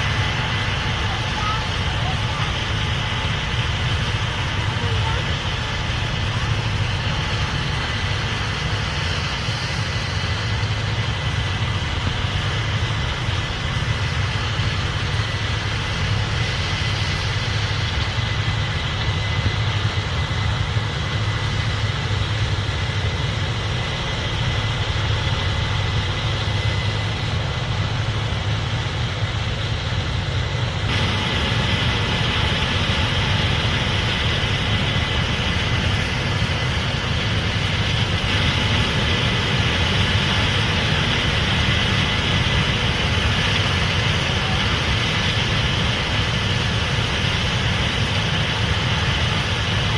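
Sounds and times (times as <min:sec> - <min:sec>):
combine harvester engine hum: 0:00.0 - 0:49.9
faint steady whine: 0:00.0 - 0:49.9.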